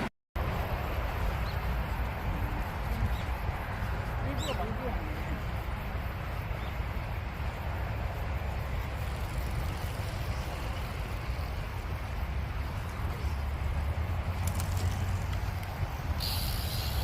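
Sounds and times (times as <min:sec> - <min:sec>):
even hiss: 0:00.8 - 0:17.0.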